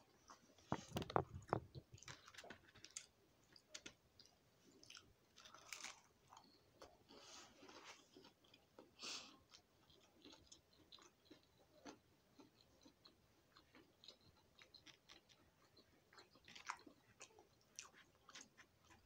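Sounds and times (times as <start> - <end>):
person chewing and crunching food: 0.2 - 19.0.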